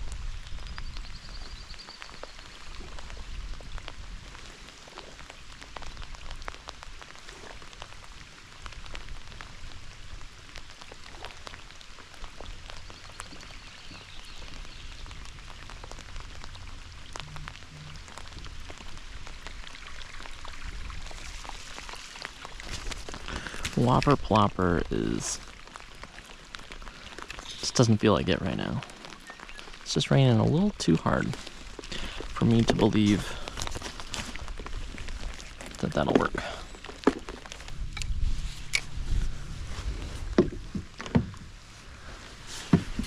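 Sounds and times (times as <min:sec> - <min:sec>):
rain falling on a lake: 0:00.0 - 0:43.0.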